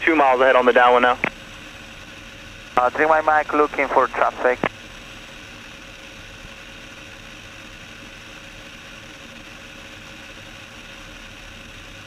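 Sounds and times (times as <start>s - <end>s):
airplane engine droning: 0.0s - 12.0s
steady hiss: 0.0s - 12.0s.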